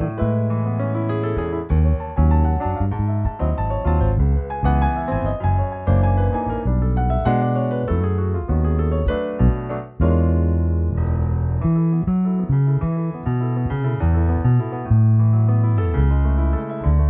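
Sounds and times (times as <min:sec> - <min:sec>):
electric bass line: 0:00.0 - 0:17.0
piano playing chords and runs: 0:00.0 - 0:17.0.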